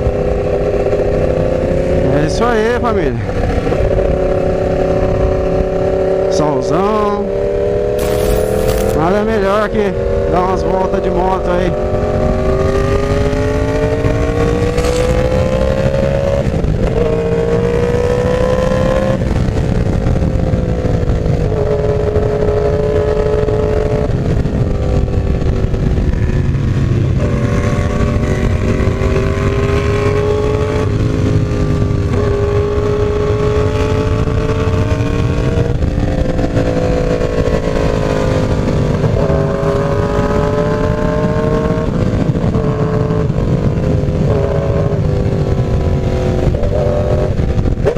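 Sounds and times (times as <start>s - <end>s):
motorcycle engine revving through gears: 0.0s - 47.9s.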